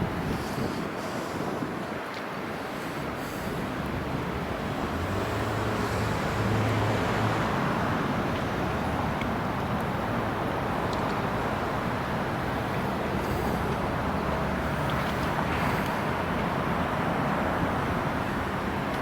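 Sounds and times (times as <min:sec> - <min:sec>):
vehicle rumbling: 0:02.9 - 0:19.0.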